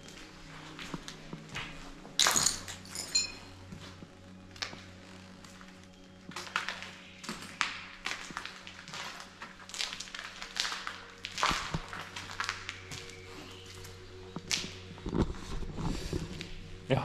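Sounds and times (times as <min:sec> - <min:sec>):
footsteps crunching over rubble: 0:00.0 - 0:16.9.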